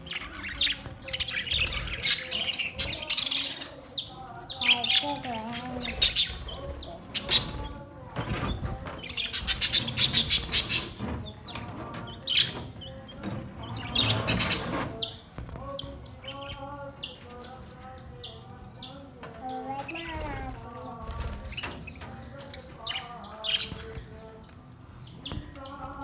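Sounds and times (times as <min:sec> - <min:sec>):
wings flapping: 0:00.0 - 0:17.9, 0:19.8 - 0:24.3
budgerigars chirping and chattering: 0:00.0 - 0:26.0.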